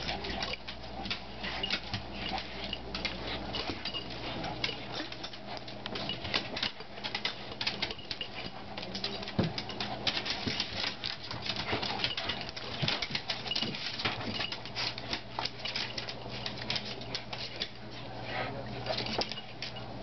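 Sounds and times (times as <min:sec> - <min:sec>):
dogs scuffling: 0:00.0 - 0:20.0.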